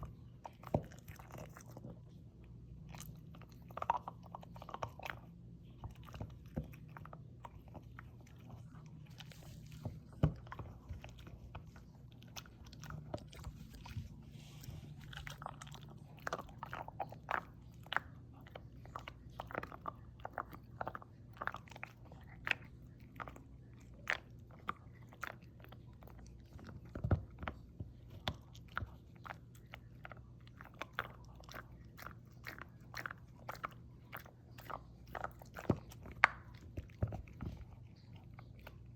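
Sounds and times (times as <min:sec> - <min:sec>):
dog crunching a chew: 0:00.0 - 0:38.9
faint low hum: 0:00.0 - 0:38.9.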